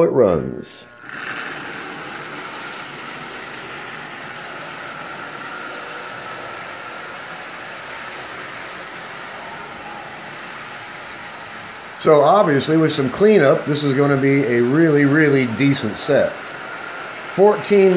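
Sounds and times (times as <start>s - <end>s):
toy train motor whirring: 0.7s - 17.9s
wheels rumbling on steel rails: 1.1s - 17.9s.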